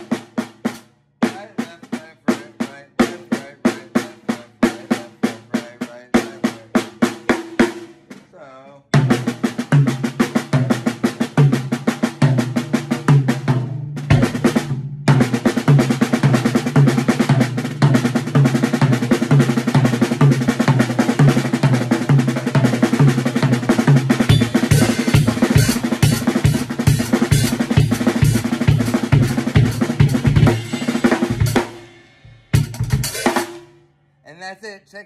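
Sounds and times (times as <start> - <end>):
fast drum rolls: 0.0 - 33.6
steady low drum beat: 0.0 - 34.5.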